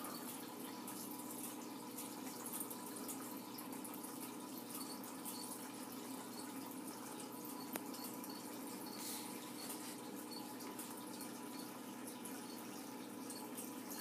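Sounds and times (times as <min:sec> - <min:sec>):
aquarium filter water trickling: 0:00.0 - 0:14.0.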